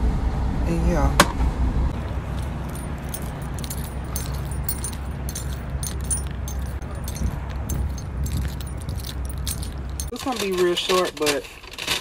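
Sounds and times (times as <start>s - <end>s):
steady low rumble: 0.0s - 10.1s
keys jingling with footsteps: 2.0s - 12.0s.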